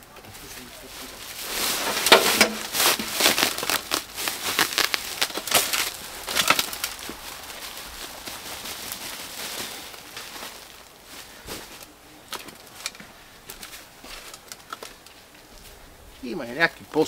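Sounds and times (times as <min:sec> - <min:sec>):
plastic sack rustling and crinkling: 0:00.3 - 0:15.3.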